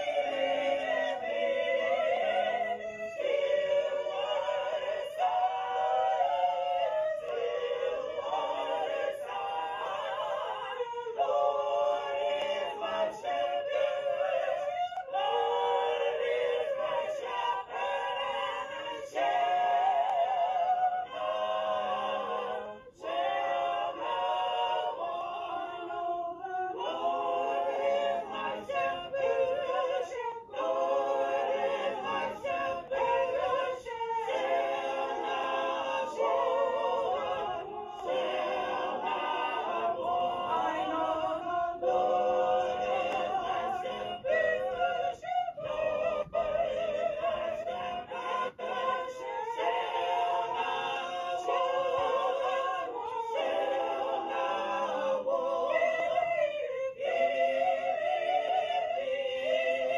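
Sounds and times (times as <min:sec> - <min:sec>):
choir singing unaccompanied: 0:00.0 - 0:59.9.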